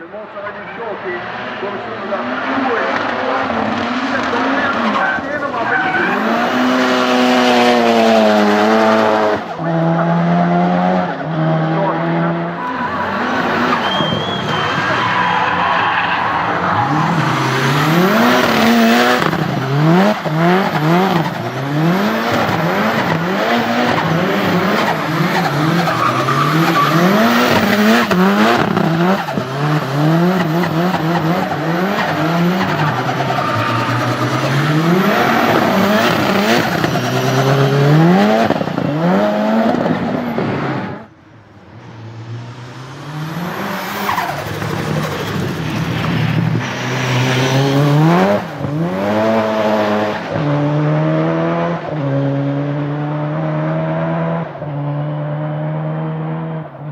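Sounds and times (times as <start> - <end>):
car engine revving: 0.0 - 56.9
tyres skidding and squealing: 0.0 - 56.9.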